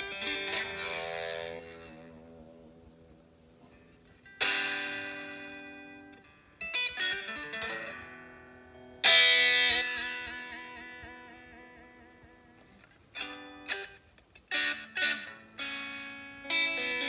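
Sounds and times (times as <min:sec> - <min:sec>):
electric guitar chords strummed: 0:00.0 - 0:17.0.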